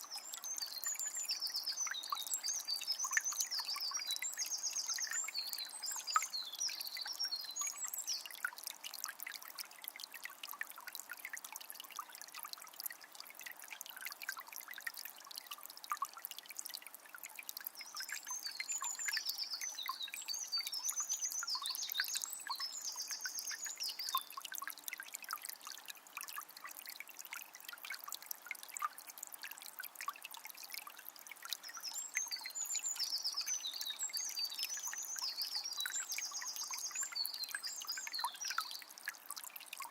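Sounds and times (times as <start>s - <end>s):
spring water trickling: 0.0s - 39.9s.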